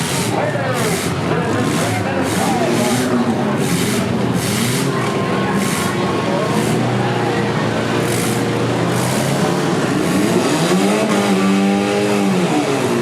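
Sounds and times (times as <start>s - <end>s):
car engine revving: 0.0s - 13.0s
other engines running: 0.0s - 13.0s.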